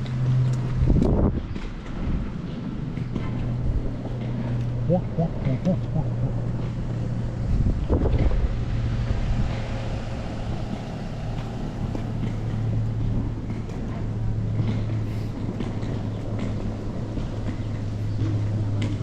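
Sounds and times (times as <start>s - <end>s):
low mechanical hum: 0.0s - 19.0s
street noise: 0.0s - 19.0s
wind buffeting microphone: 0.0s - 19.0s.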